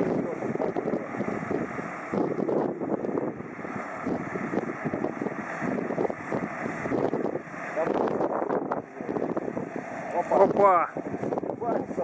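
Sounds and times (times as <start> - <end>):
bulldozer diesel engines running: 0.0 - 12.0
wind buffeting microphone: 0.0 - 12.0.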